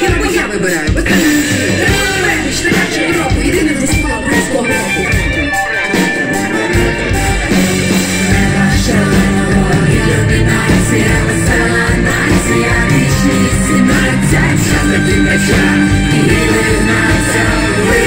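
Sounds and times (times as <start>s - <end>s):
person singing: 0.0s - 5.7s, 8.2s - 18.0s
live brass band playing: 0.0s - 18.0s.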